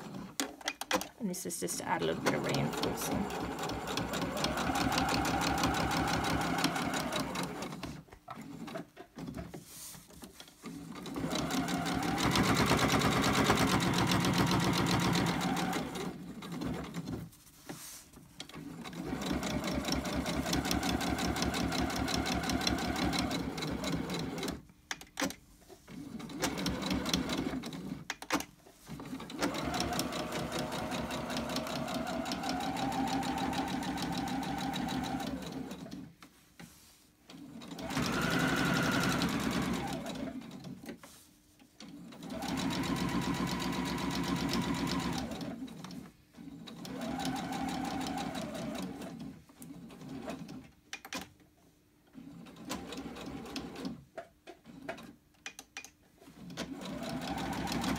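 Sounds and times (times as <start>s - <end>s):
sewing machine stitching: 1.9s - 17.3s, 18.4s - 36.1s, 37.3s - 41.1s, 41.8s - 51.3s, 52.1s - 57.9s.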